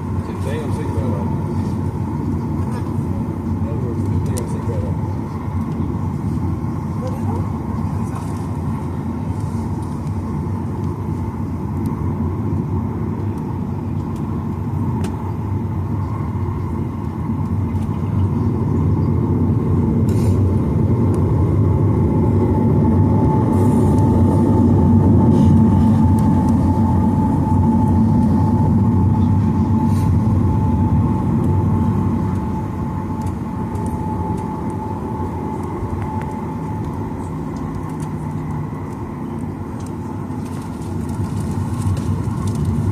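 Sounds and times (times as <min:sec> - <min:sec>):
high engine whine: 0:00.0 - 0:42.9
jet engines at takeoff thrust: 0:00.0 - 0:42.9.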